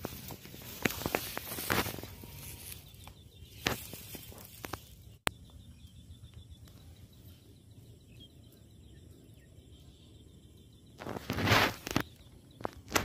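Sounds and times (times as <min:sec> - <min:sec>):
faint high-pitched chirping: 0:00.0 - 0:13.0.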